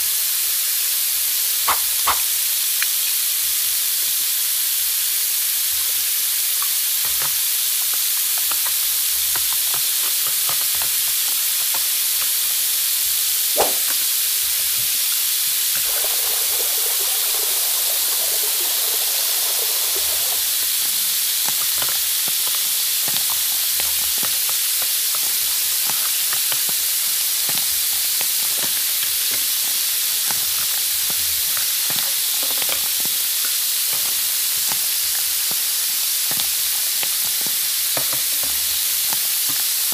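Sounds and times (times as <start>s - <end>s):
sizzling hiss: 0.0s - 39.9s.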